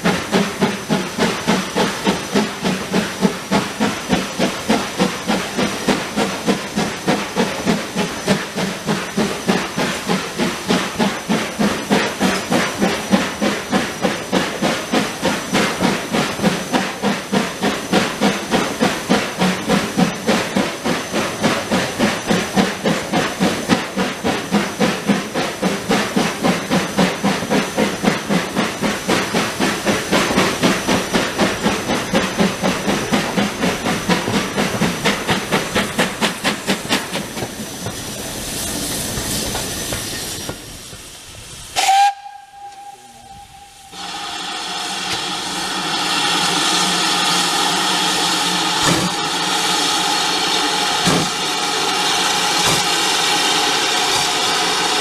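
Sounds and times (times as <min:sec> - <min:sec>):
steam hissing: 0:00.0 - 0:55.0
steam locomotive exhaust chuffs: 0:00.0 - 0:55.0
train wheels running: 0:00.0 - 0:55.0.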